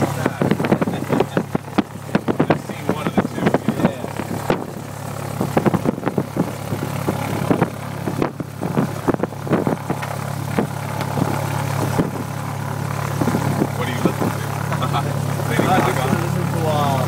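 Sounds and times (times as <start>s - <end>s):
light airplane engine drone: 0.0s - 17.0s
short crackles: 0.2s - 16.2s.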